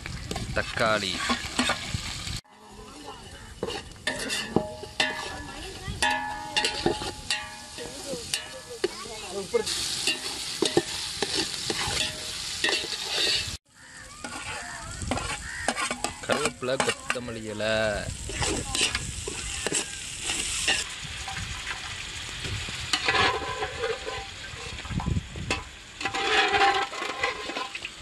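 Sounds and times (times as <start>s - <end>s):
vegetables sizzling in oil: 0.0s - 28.0s
metal ladle scraping a pot: 0.5s - 9.0s, 9.6s - 13.6s, 14.2s - 17.4s, 18.3s - 21.8s, 22.9s - 28.0s.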